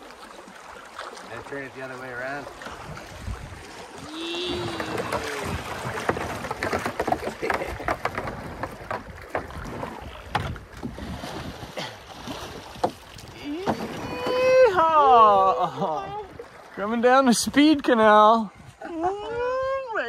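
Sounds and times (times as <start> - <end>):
creek water rushing: 0.0 - 18.5
paddles splashing: 0.0 - 20.0.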